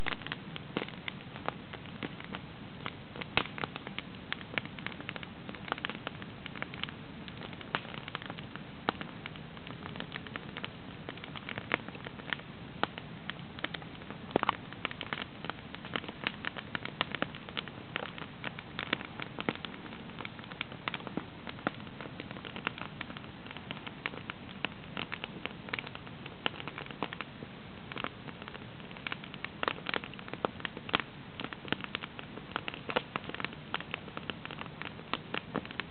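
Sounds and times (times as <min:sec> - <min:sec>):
campfire crackling and popping: 0:00.0 - 0:35.9.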